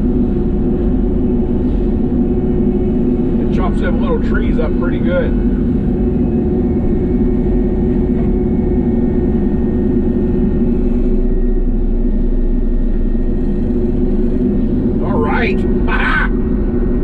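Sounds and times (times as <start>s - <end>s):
excavator engine and hydraulics drone: 0.0s - 17.0s.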